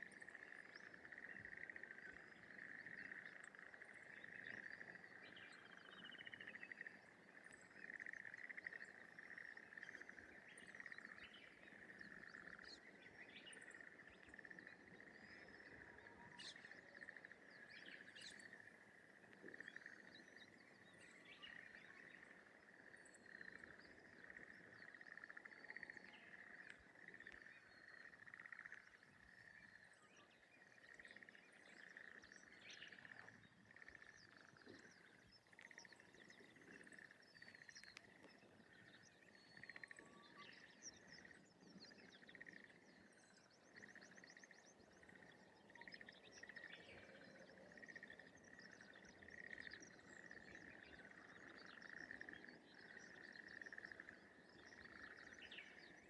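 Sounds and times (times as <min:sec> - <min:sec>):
frogs chorus trilling: 0:00.0 - 0:56.0.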